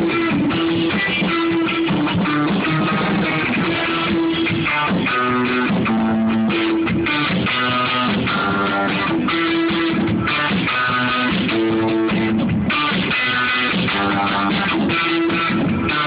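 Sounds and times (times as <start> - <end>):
band playing guitar-led music: 0.0 - 16.0.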